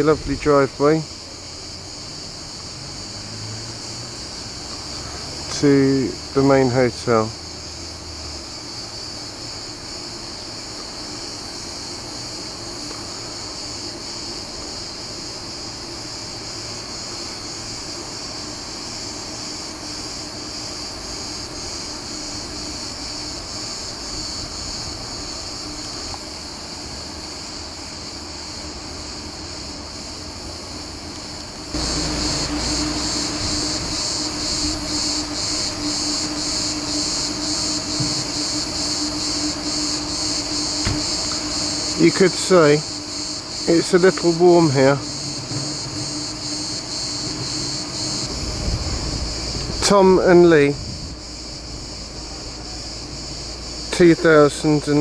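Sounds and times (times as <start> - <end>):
cicadas calling: 0.0 - 55.0.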